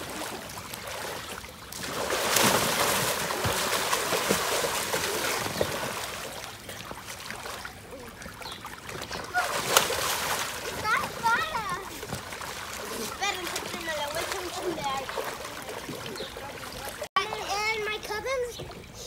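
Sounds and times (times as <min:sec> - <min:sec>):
water splashing in paddling pool: 0:00.0 - 0:19.0.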